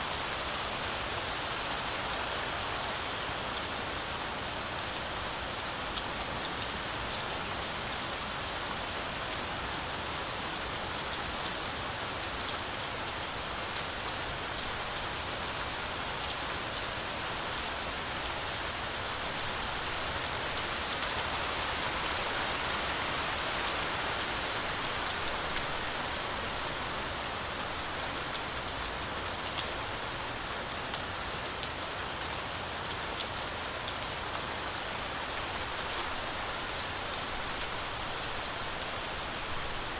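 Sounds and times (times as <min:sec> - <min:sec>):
heavy rain on forest canopy: 0:00.0 - 0:39.9.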